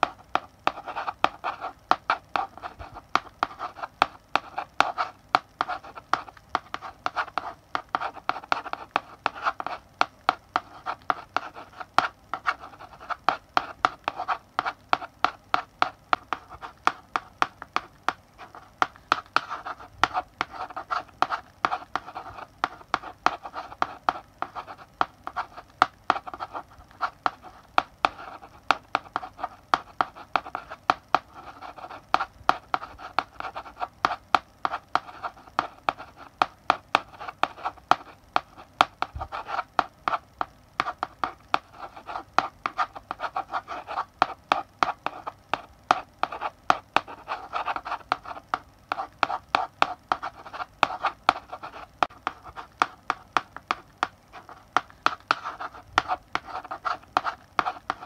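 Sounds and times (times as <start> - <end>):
chalk scratching on blackboard: 0.0 - 40.2, 40.8 - 58.0.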